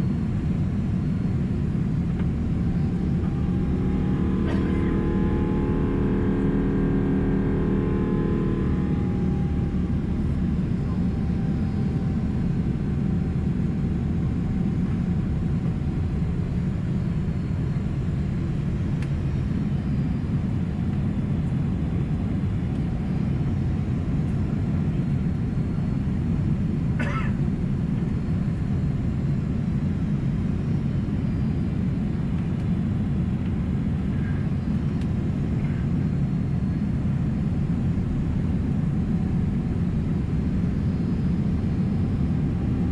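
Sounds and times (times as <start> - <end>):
droning engine tone: 0.0 - 42.9
jet engine low rumble in cabin: 0.0 - 42.9.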